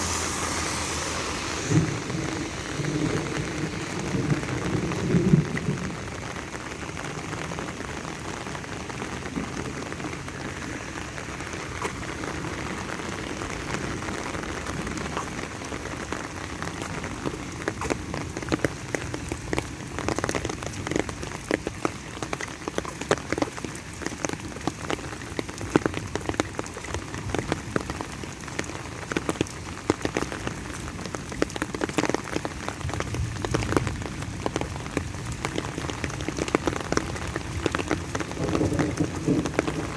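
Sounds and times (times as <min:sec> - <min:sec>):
sharp raindrop hits: 0:00.0 - 0:39.9
steady rain hiss: 0:00.0 - 0:39.9.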